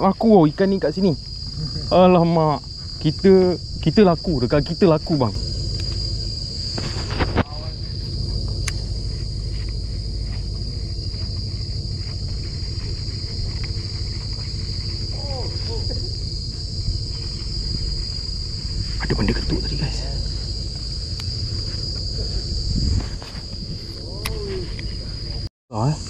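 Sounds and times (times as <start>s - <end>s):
wind rumble on microphone: 0.0s - 25.5s
insects droning: 0.0s - 26.0s.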